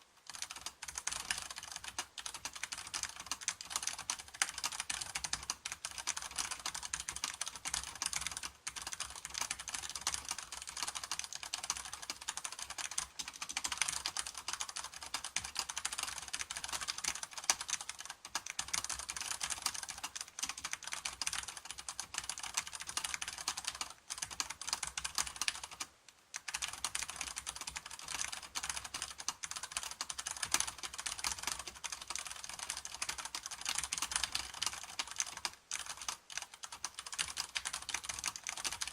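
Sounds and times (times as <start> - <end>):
fast mechanical keyboard typing: 0.2 - 38.9.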